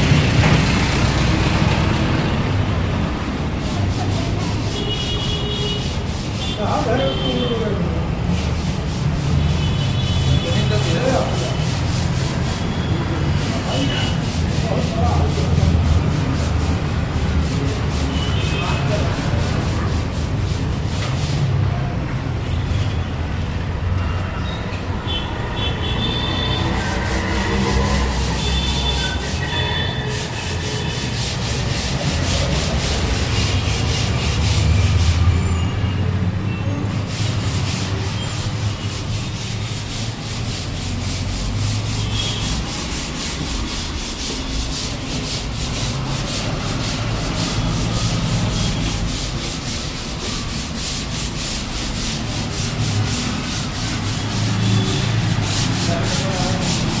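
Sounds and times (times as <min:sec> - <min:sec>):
sanding scraping rub: 0:00.0 - 0:22.6, 0:25.5 - 0:57.0.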